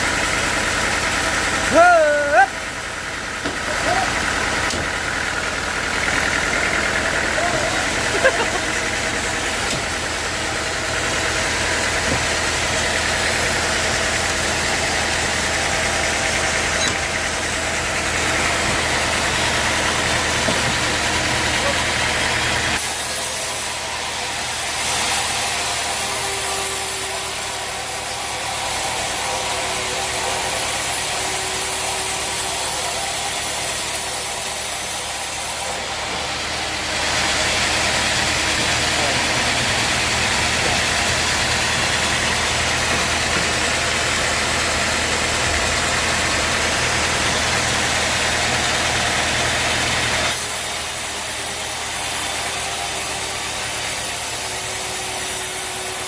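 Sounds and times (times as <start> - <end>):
engine hum: 0.0 - 56.0.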